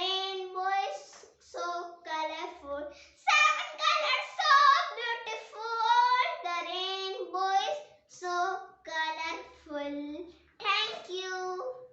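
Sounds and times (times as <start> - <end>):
child singing: 0.0 - 10.0.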